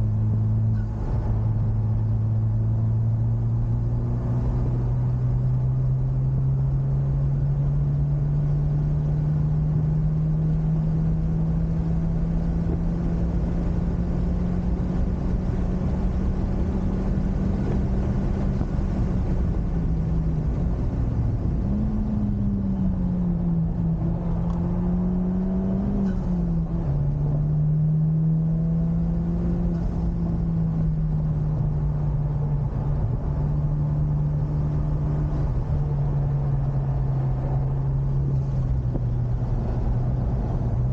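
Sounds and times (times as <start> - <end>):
car engine droning: 0.0 - 40.9
road and wind noise: 0.0 - 40.9.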